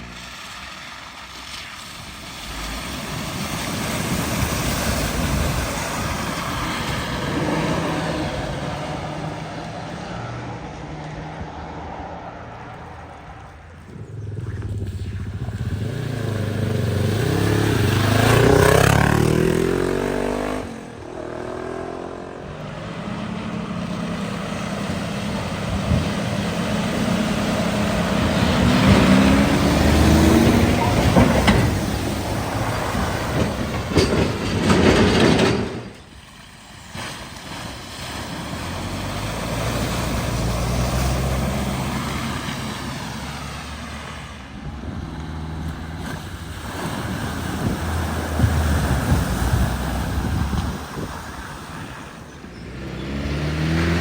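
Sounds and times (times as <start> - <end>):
car engines driving through water: 0.0 - 54.0
water splashing from tyres: 0.0 - 54.0.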